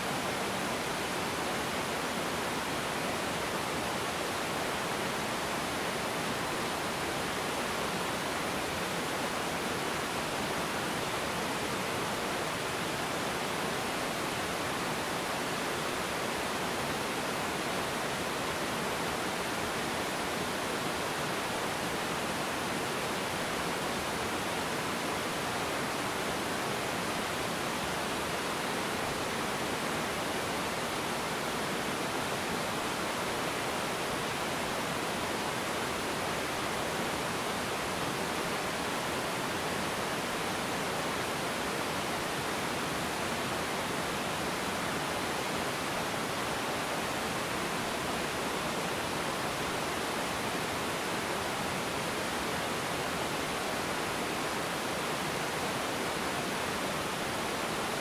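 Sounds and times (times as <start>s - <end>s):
waterfall pouring over rocks: 0.0s - 58.0s.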